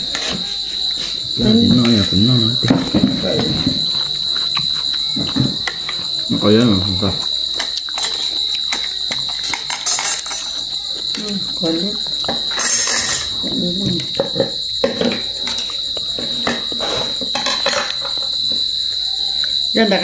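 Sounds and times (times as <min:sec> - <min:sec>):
crickets chirring: 0:00.0 - 0:20.0
plastic plates and spoons clinking: 0:01.7 - 0:11.3, 0:12.1 - 0:18.7.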